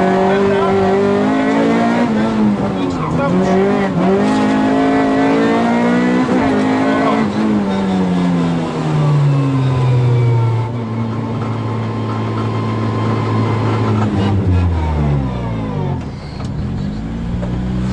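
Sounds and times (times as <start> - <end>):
car engine from inside cabin: 0.0 - 17.9.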